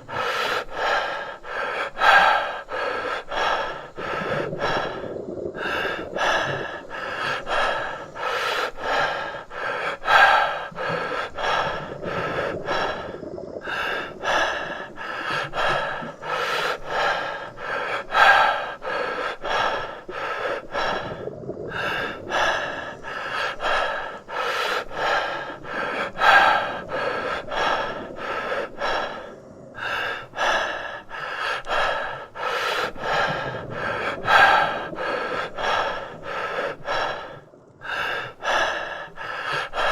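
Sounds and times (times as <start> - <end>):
person breathing quickly: 0.0 - 39.9.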